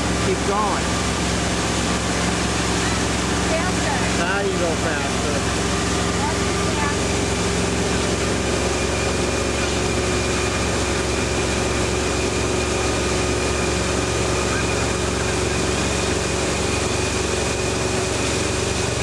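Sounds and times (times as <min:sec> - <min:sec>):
churning wake water: 0:00.0 - 0:19.0
motorboat engine droning: 0:00.0 - 0:19.0.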